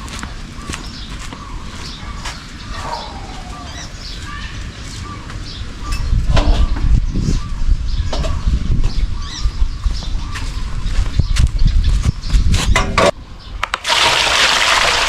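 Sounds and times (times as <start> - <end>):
bird chirps: 0.0 - 12.4
rural background: 0.0 - 15.0.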